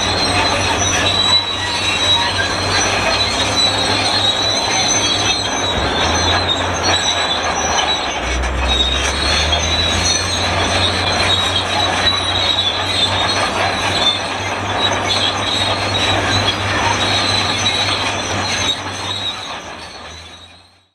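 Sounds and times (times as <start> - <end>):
bulldozer metal screeching: 0.0 - 20.9
diesel engine hum: 0.0 - 20.9.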